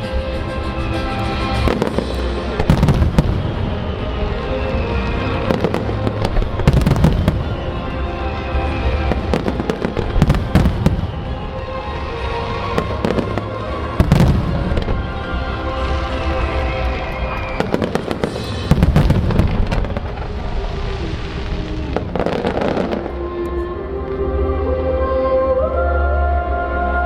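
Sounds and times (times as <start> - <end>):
fireworks crackling: 0.0 - 23.6
music over loudspeakers: 0.0 - 27.0
fireworks bursting: 0.8 - 23.2.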